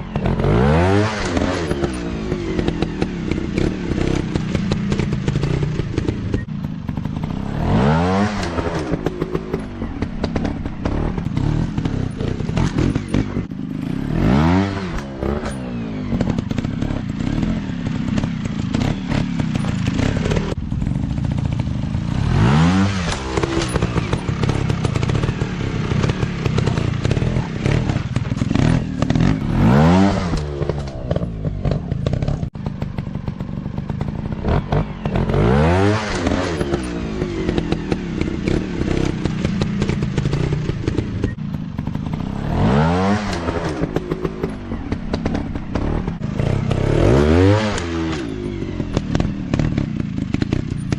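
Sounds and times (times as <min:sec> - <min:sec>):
dirt bike engines revving: 0:00.0 - 0:50.9
knocks and clatter: 0:01.2 - 0:13.5, 0:14.6 - 0:21.7, 0:22.9 - 0:35.5, 0:36.1 - 0:50.9.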